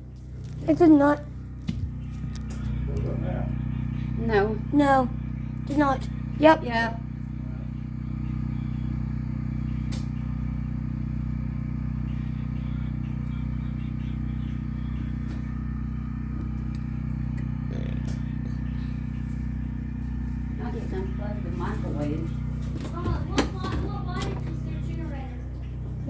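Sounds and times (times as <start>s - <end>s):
generator engine humming: 0.0s - 26.0s.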